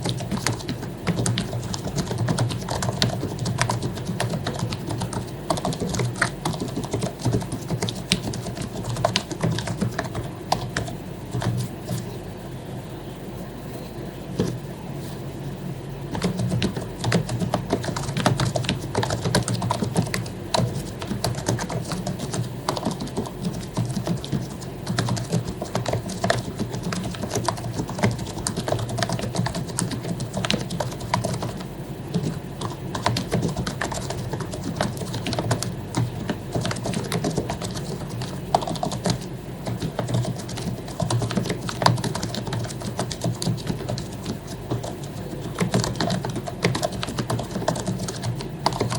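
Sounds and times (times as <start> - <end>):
typing on a keyboard: 0.0 - 12.1, 16.1 - 48.9.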